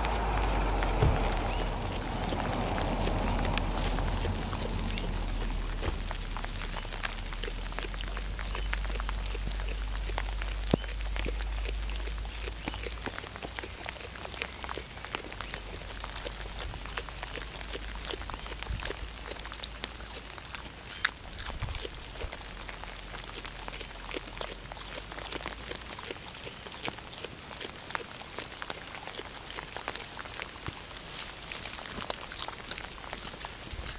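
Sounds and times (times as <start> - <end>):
koala chewing leaves: 0.0 - 33.9.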